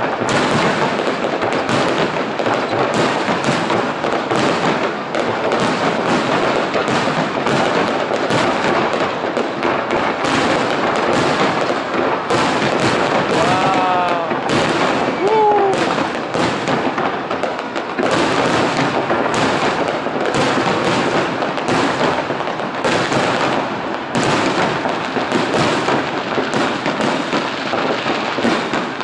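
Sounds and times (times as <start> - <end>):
fireworks crackling and banging: 0.0 - 29.0.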